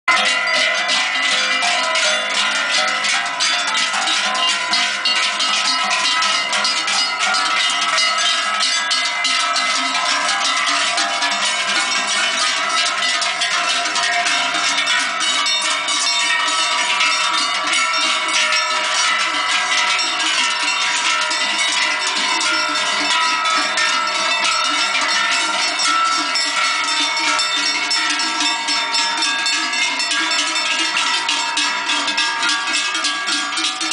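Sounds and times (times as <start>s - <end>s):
cowbells clanging: 0.1s - 33.9s.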